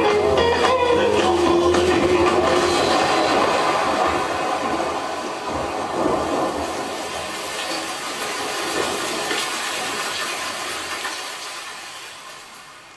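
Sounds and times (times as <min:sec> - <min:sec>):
rushing rain-like noise: 0:00.0 - 0:12.9.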